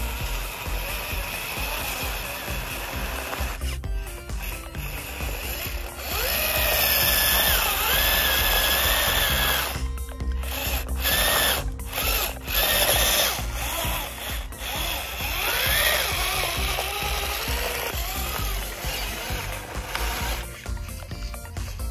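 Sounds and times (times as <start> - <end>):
power tool motor whine: 0.0 - 21.9.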